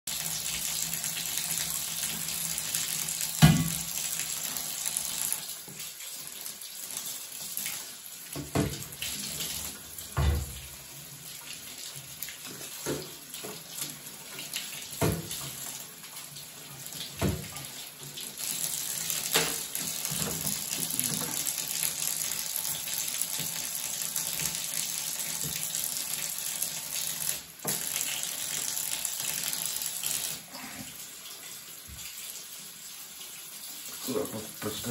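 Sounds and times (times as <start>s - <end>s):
tap water running into bathtub: 0.1s - 34.9s.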